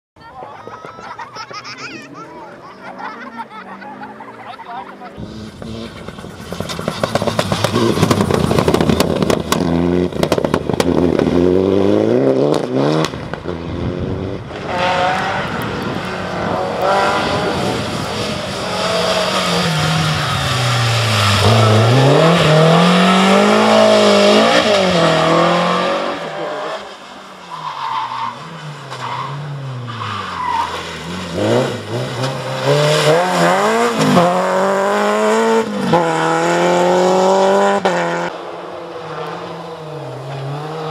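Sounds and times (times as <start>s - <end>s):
rally car engines revving: 0.8s - 40.9s.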